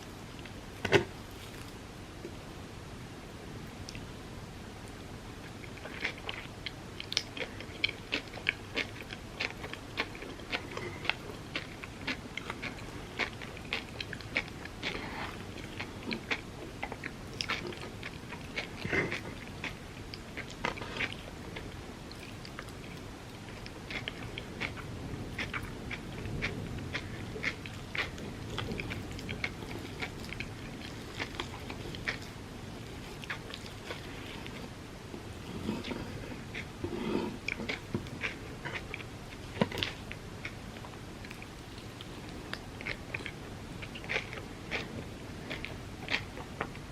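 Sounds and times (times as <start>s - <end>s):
crunchy chewing and biting: 5.6s - 34.7s, 35.4s - 46.8s.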